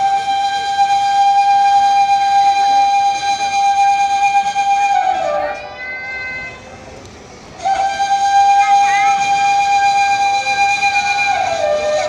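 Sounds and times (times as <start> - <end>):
flute holding long note: 0.0 - 6.8, 7.5 - 12.0.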